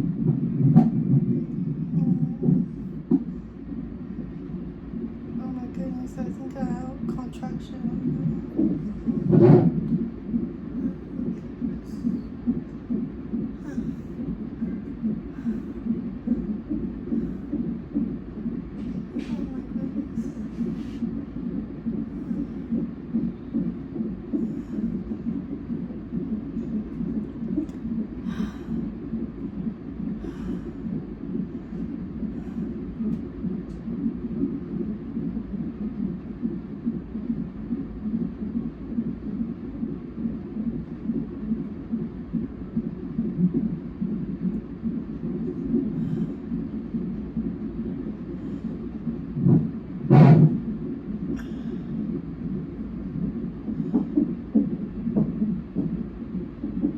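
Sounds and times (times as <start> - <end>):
fetal heartbeat whooshing pulse: 0.0 - 56.9.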